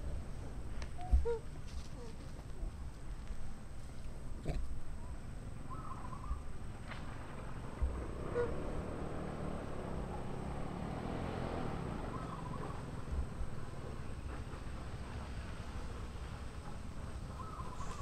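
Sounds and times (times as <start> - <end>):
faint engine hum: 0.0 - 18.0.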